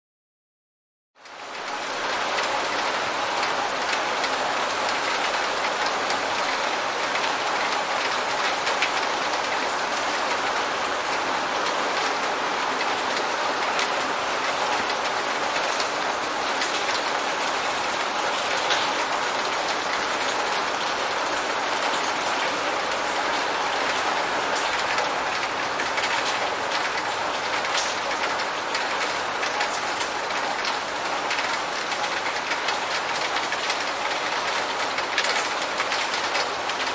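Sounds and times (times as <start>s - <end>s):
steady rain falling: 1.2s - 36.9s.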